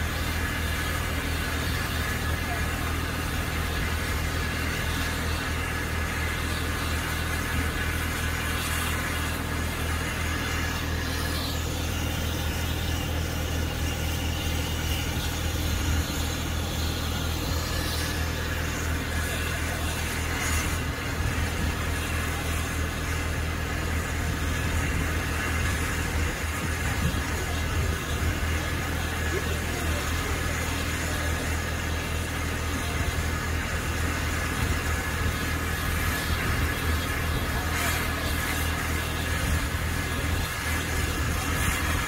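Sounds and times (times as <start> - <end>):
low engine drone: 0.0 - 42.0
steam hissing: 0.0 - 42.0.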